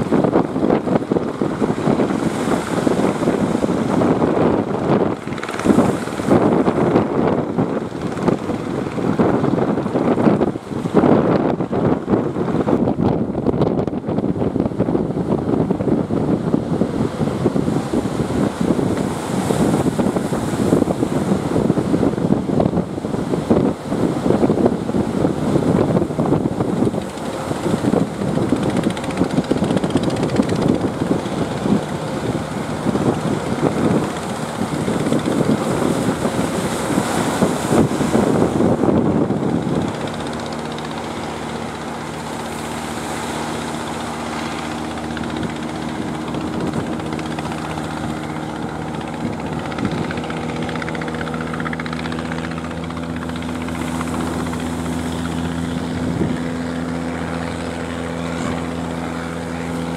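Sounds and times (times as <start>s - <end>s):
gusty rumbling noise: 0.0s - 59.9s
steady engine drone: 0.0s - 59.9s.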